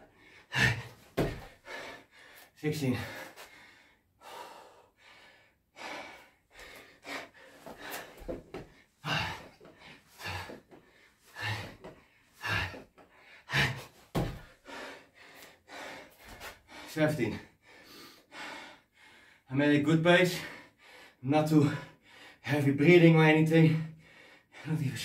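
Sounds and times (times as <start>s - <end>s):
man breathing hard: 0.0s - 19.5s, 20.3s - 22.5s, 23.8s - 24.7s.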